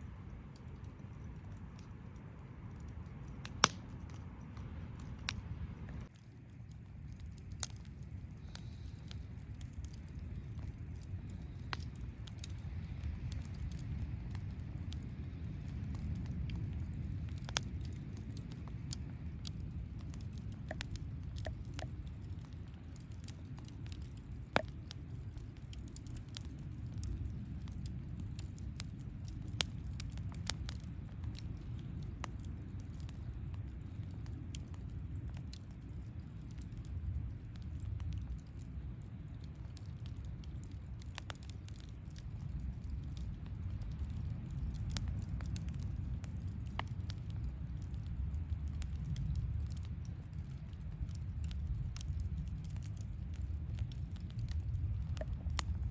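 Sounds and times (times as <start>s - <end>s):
campfire crackling and popping: 0.0s - 55.9s
low fire rumble: 0.0s - 55.9s.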